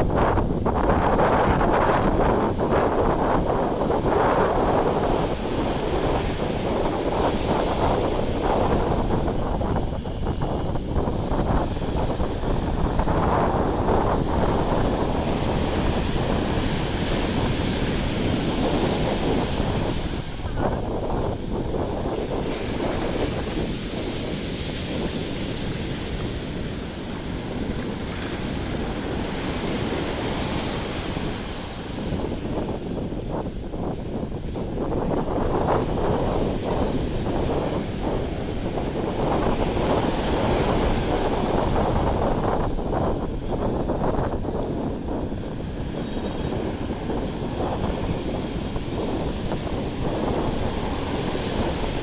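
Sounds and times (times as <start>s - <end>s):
sea waves washing onto beach: 0.0s - 52.0s
wind buffeting microphone: 0.0s - 52.0s.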